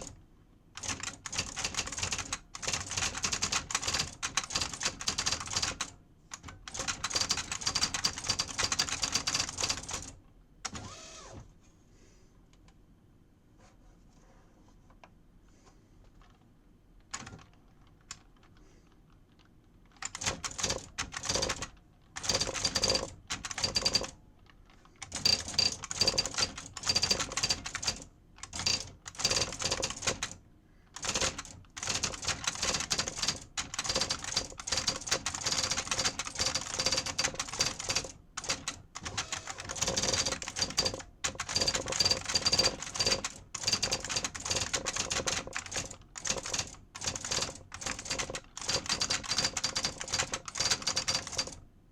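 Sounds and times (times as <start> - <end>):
electronic typewriter typing: 0.8 - 10.8, 17.1 - 18.5, 19.4 - 24.2, 25.0 - 30.4, 31.0 - 51.6.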